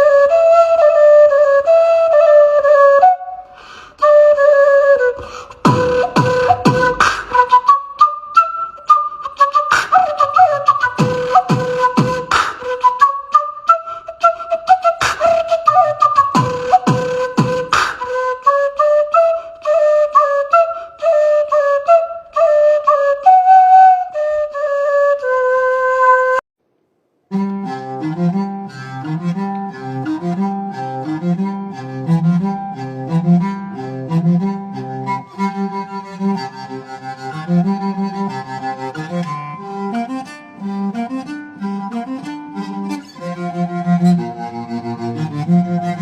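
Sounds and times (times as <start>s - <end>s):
flute-like melody: 0.0s - 26.4s, 27.3s - 46.0s.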